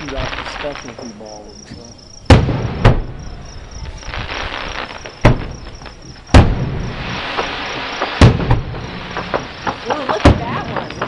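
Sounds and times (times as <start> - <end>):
crickets chirping: 0.0 - 11.0
distant fireworks bangs with echo: 0.0 - 11.0.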